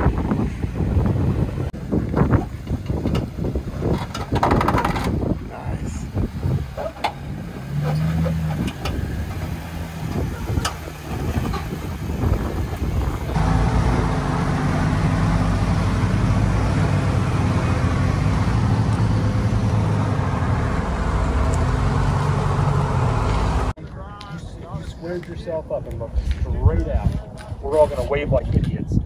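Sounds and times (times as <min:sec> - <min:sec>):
engines running at low speed: 0:00.0 - 0:23.8
loud steady engine close by: 0:00.0 - 0:23.8.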